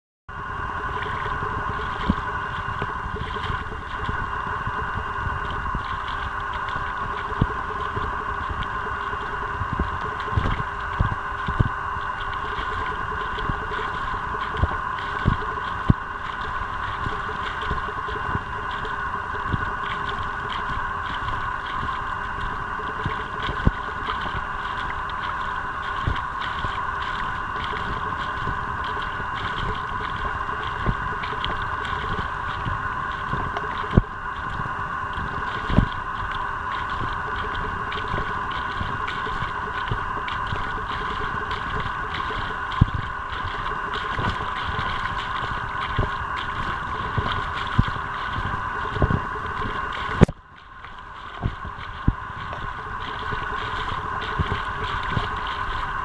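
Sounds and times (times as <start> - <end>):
steady mechanical hum: 0.3 - 56.0
wind rumble on microphone: 0.3 - 56.0.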